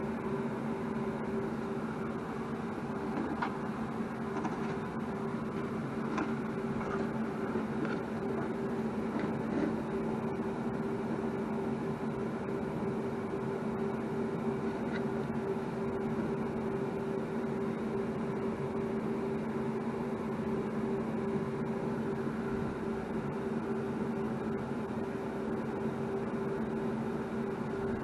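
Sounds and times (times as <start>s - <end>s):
small motor humming: 0.0s - 28.0s.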